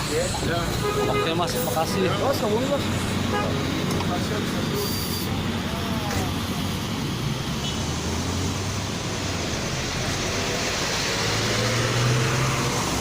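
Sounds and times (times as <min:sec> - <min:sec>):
road traffic noise: 0:00.0 - 0:13.0
vehicle engine humming: 0:00.0 - 0:13.0.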